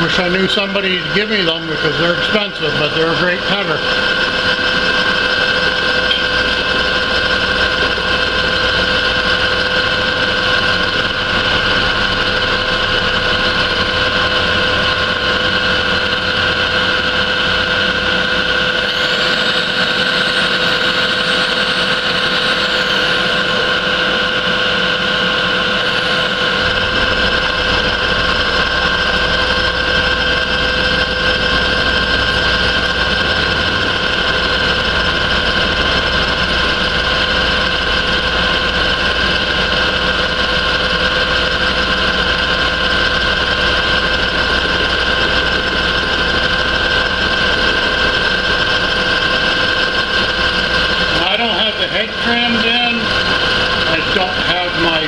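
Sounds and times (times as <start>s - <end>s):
milling machine whining: 0.0s - 55.0s.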